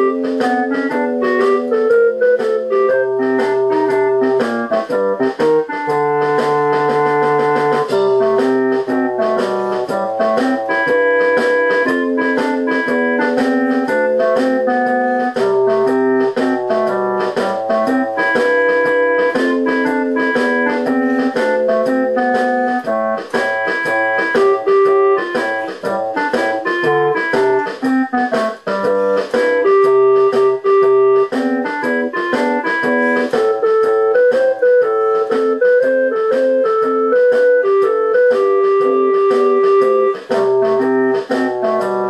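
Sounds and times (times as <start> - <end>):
electronic keyboard music: 0.0 - 42.0.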